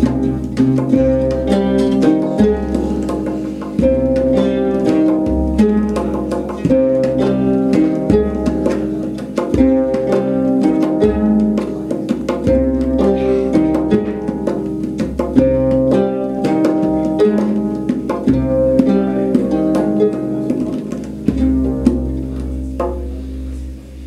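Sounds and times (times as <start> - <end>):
hand drum strokes: 0.0 - 24.0
oud and harp plucked melody: 0.0 - 24.0.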